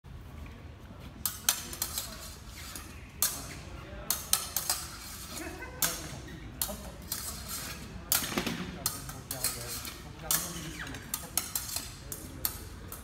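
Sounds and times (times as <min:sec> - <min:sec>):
fencing blades clashing: 0:01.0 - 0:13.0.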